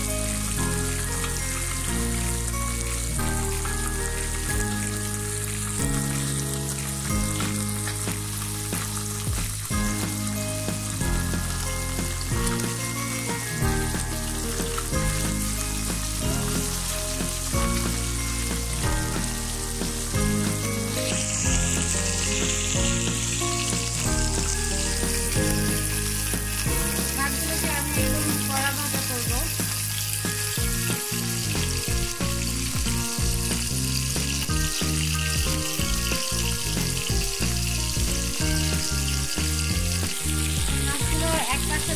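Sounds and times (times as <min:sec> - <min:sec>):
fish sizzling in hot oil: 0:00.0 - 0:41.9.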